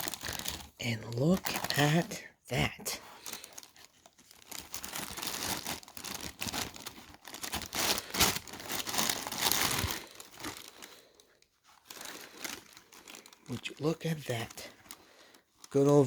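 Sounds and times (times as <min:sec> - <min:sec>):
wrapping paper crinkling and rustling: 0:00.0 - 0:16.0.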